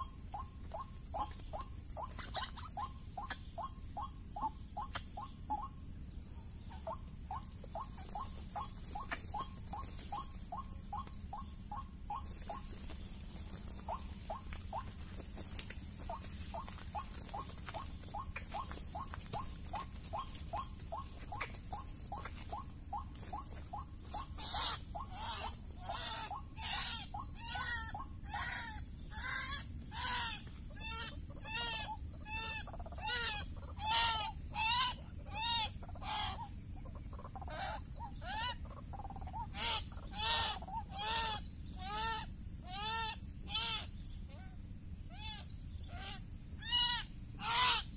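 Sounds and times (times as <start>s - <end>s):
harsh bird calls: 0.0s - 5.8s, 6.7s - 47.9s.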